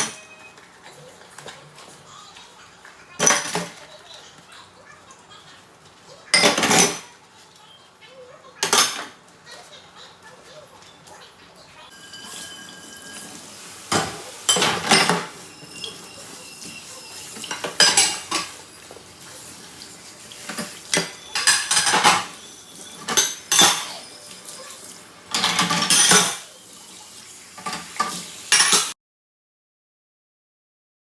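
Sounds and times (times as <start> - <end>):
dishes and cutlery clattering: 0.0 - 4.6, 6.2 - 7.7, 8.6 - 29.0.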